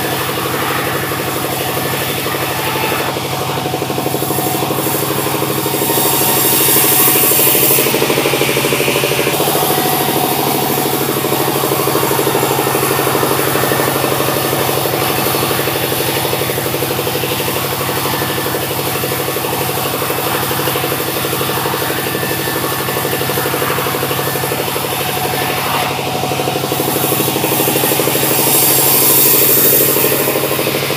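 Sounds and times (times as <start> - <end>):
sawmill machinery engine drone: 0.0 - 30.9.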